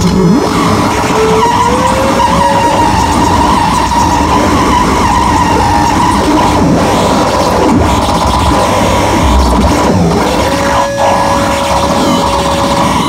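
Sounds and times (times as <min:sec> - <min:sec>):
harsh synthesizer noise: 0:00.0 - 0:13.0
low tone gliding upward: 0:00.0 - 0:13.0
steady high synth tone: 0:00.0 - 0:13.0.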